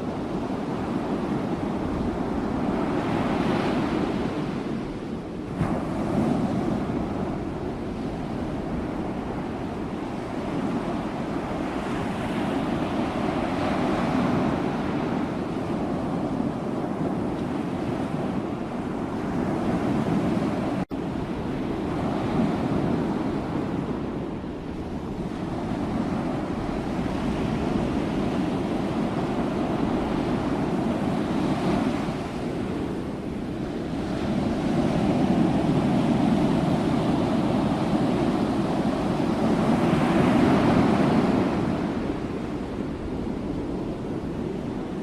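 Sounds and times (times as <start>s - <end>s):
ocean waves breaking on shore: 0.0s - 45.0s.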